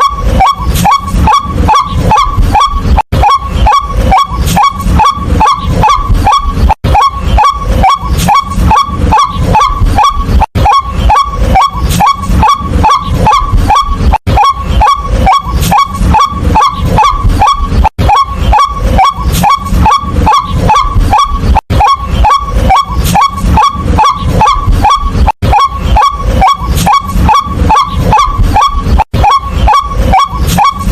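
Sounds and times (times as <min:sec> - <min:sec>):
bird calling harsh repeated notes: 0:00.0 - 0:30.9.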